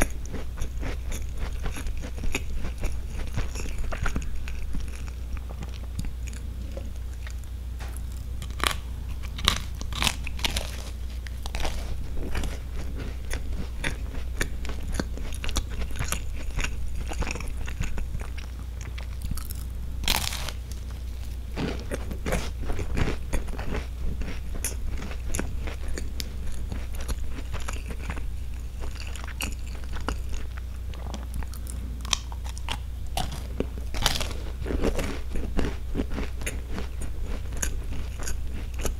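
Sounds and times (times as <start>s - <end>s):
cookie crunching and chewing: 0.0s - 38.9s
steady low hum: 0.0s - 38.9s.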